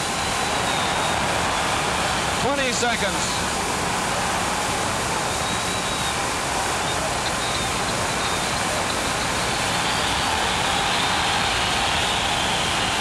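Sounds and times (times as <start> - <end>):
crowd cheering and shouting: 0.0 - 13.0.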